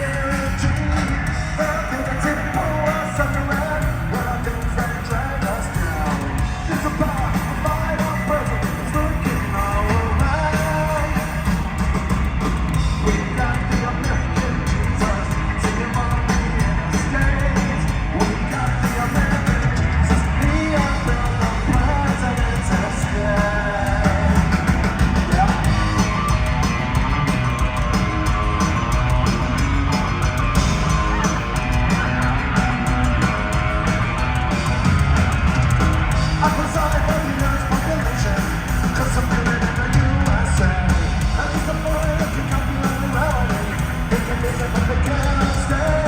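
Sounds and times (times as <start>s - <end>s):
punk rock band playing: 0.0s - 46.0s.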